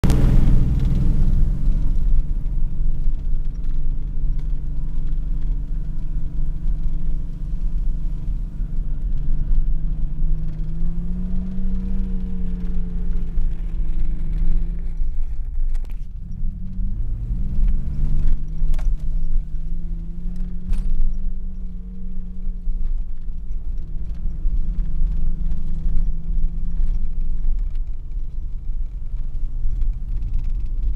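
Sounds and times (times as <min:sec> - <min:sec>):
vehicle engine revving: 0:00.0 - 0:15.2, 0:16.2 - 0:28.0
heavy low rumble: 0:00.0 - 0:30.9.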